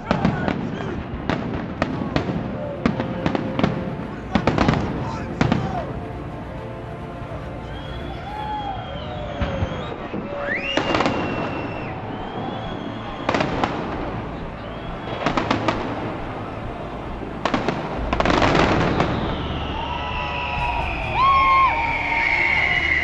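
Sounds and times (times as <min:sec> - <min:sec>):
firework bangs and crackles: 0:00.0 - 0:23.0.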